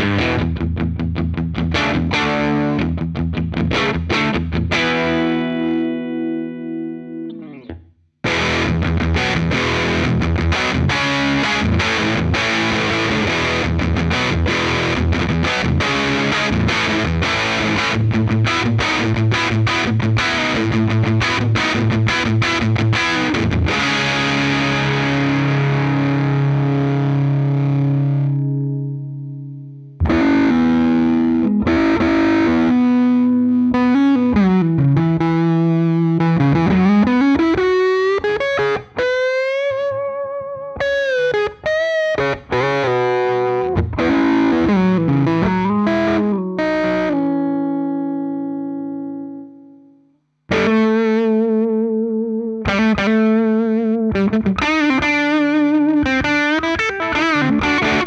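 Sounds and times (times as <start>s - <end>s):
electric guitar lead with bends: 0.0s - 58.0s
overdriven electric guitar riff: 0.0s - 58.0s.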